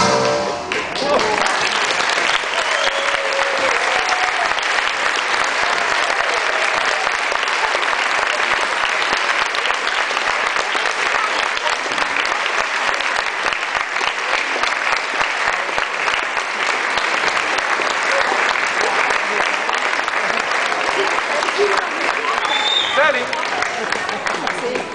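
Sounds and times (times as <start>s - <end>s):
audience applauding: 0.0s - 24.9s.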